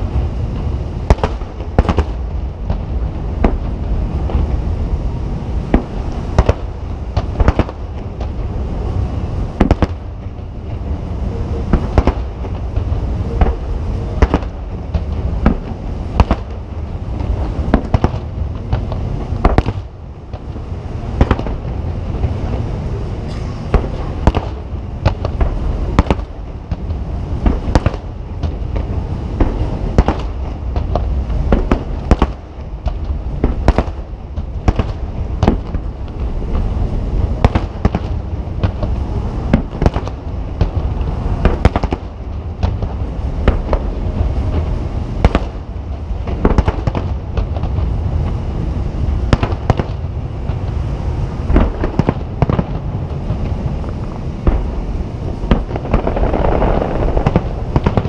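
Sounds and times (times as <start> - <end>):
low rumble of echoing explosions: 0.0 - 58.0
firework shells bursting: 0.6 - 4.6, 5.7 - 8.5, 11.7 - 22.6, 23.3 - 36.7, 37.4 - 48.4, 51.4 - 58.0.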